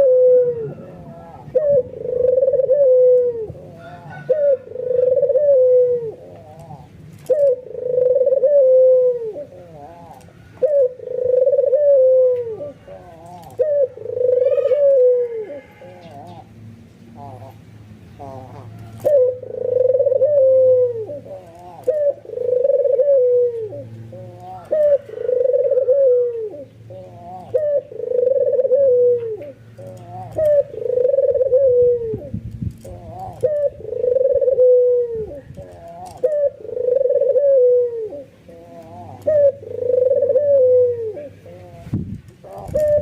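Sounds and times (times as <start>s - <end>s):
dove cooing: 0.0s - 43.0s.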